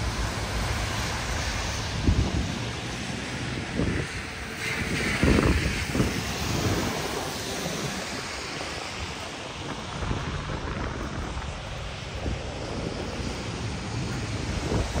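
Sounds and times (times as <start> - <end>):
rain hiss: 0.0 - 15.0
traffic on wet pavement: 0.0 - 15.0
wind buffeting microphone: 0.0 - 15.0.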